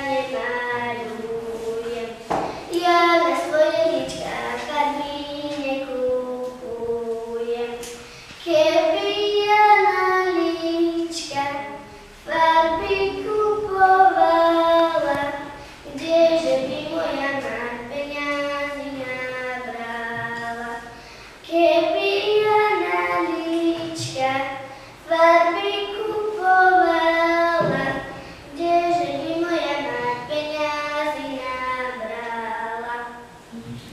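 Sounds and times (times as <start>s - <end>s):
girl singing unaccompanied: 0.0s - 33.5s.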